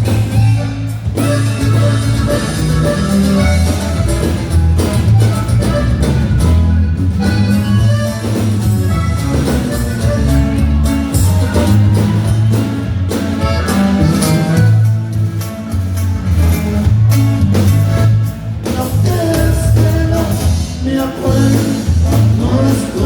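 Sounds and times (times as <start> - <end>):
instrumental band music: 0.0 - 23.0.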